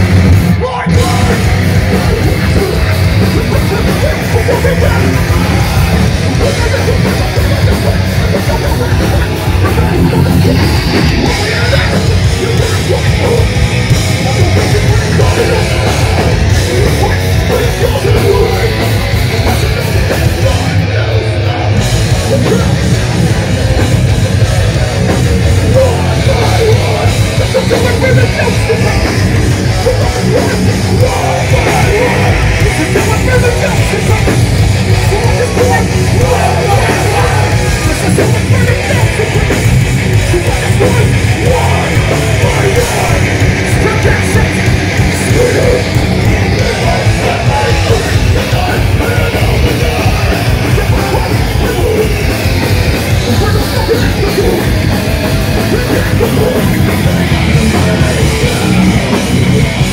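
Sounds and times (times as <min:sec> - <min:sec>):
bass guitar: 0:00.0 - 0:59.9
distorted electric guitars: 0:00.0 - 0:59.9
drums: 0:00.0 - 0:59.9
yelled vocals: 0:00.0 - 0:59.9.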